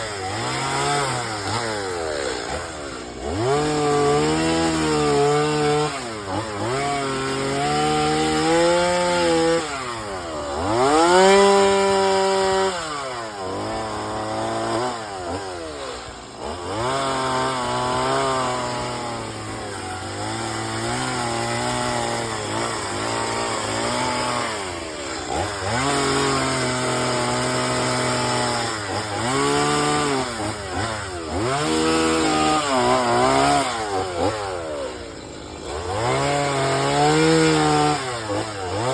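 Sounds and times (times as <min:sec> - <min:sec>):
chainsaw revving cutting wood: 0:00.0 - 0:38.9.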